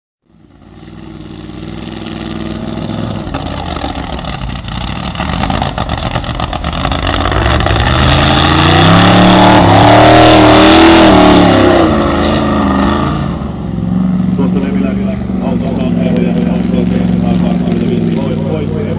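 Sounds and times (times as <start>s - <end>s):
buggy engine revving hard: 0.4s - 18.9s.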